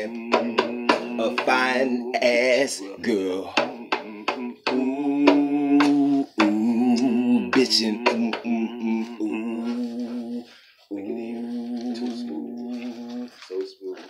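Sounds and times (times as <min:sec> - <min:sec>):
man singing wordless melody: 0:00.0 - 0:14.0.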